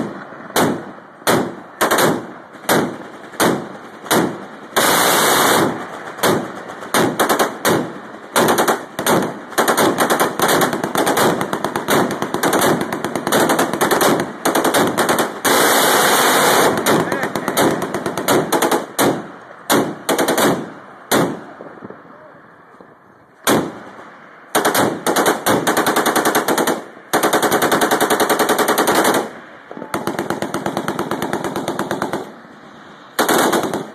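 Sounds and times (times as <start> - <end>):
ship guns firing: 0.0 - 21.5, 23.4 - 32.3, 33.2 - 33.9.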